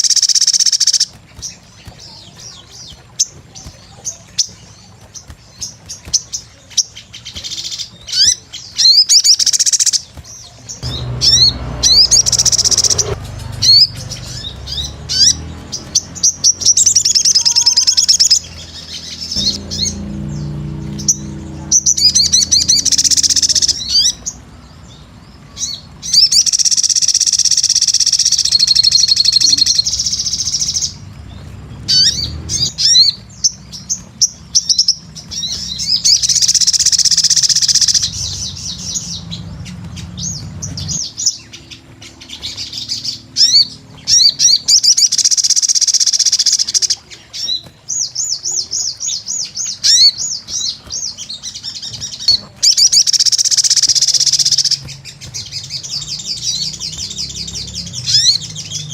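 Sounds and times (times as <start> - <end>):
bird twittering song: 0.0 - 58.9.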